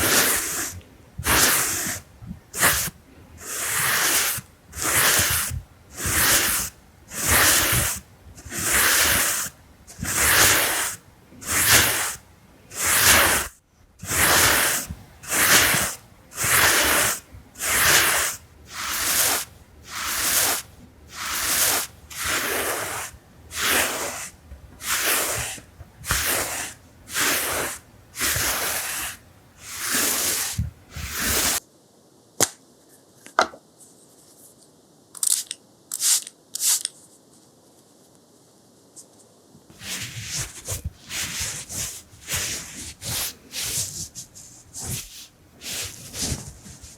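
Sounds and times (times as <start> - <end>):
close-miked hissing strokes: 0.0 - 32.2, 39.7 - 46.9.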